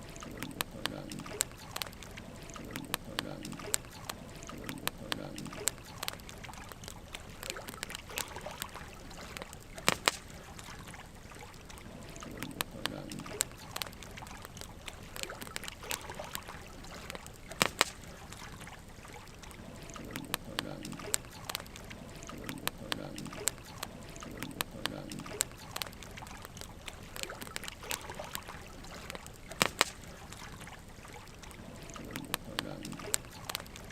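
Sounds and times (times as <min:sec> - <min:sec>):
burning logs crackling: 0:00.0 - 0:33.9.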